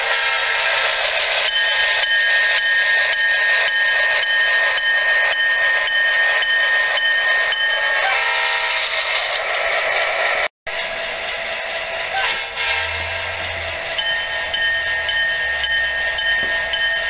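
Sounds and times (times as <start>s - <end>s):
electronic train bell ringing: 0.1s - 9.4s, 10.8s - 17.0s.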